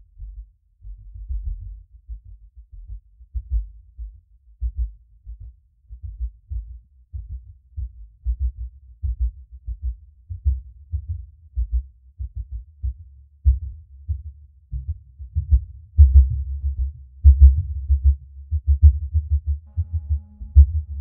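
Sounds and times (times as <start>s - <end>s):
deep muffled bass pulses: 0.0s - 21.0s.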